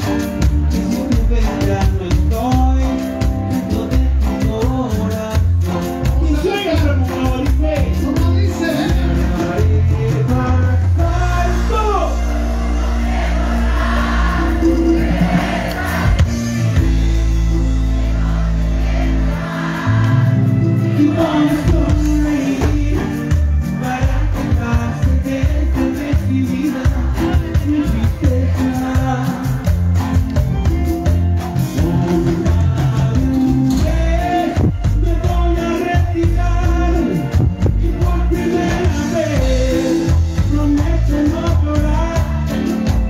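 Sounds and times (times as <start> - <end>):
held bass notes: 0.0 - 43.0
live cumbia band music: 0.0 - 43.0.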